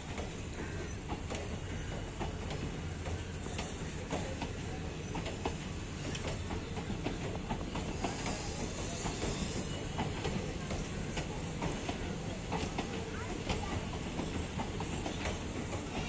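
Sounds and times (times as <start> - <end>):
train wheels rumbling on rail: 0.0 - 16.0
wheels clicking on track: 0.0 - 16.0.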